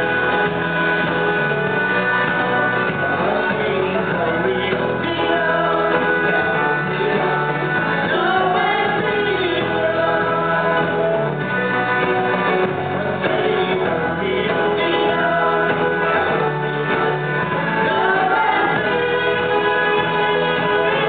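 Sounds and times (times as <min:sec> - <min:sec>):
guitar: 0:00.0 - 0:21.0
live band playing: 0:00.0 - 0:21.0
person singing: 0:00.0 - 0:21.0.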